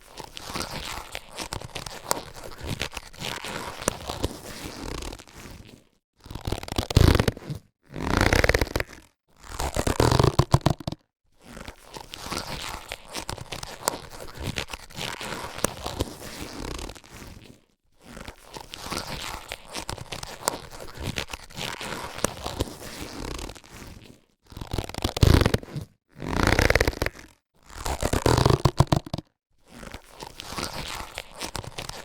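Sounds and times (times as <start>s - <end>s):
gloves crinkly rustling: 0.0s - 7.6s, 9.8s - 25.8s, 28.0s - 32.0s
rubber gloves stretching squeaks: 0.0s - 32.0s.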